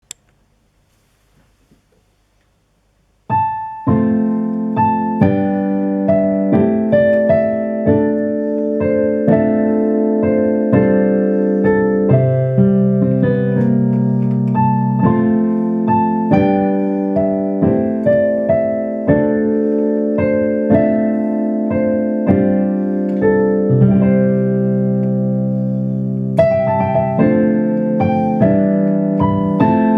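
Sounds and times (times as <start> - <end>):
solo piano: 3.2 - 29.9.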